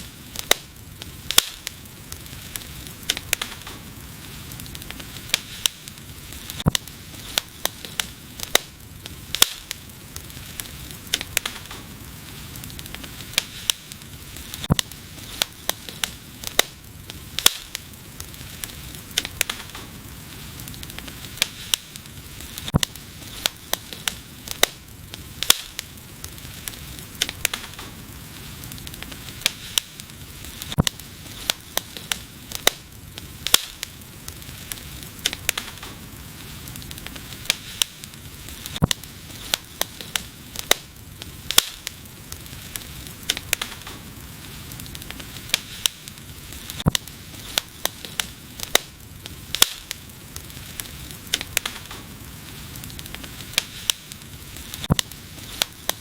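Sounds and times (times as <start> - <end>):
soft hiss of burning wood: 0.0 - 56.0
wood fire pops and snaps: 0.0 - 56.0.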